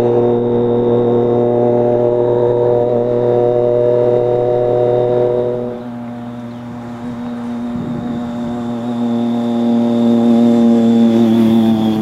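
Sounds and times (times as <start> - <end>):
motorcycle engine at steady revs: 0.0 - 12.0.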